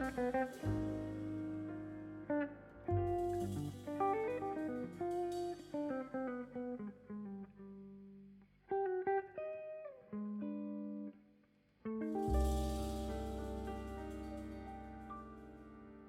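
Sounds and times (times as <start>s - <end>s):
plucked guitar melody: 0.0s - 8.1s, 8.7s - 11.1s, 11.9s - 16.0s.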